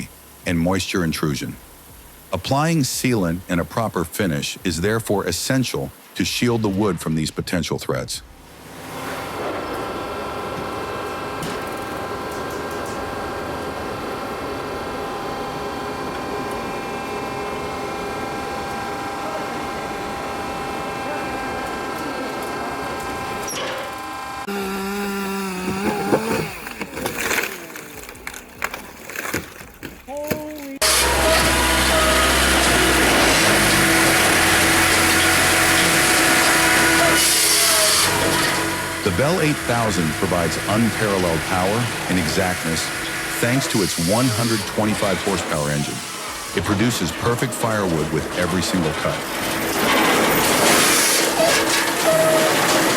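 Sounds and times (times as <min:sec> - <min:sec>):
machinery whine: 0:00.0 - 0:29.4, 0:30.8 - 0:52.9
firewood processor running: 0:08.3 - 0:52.9.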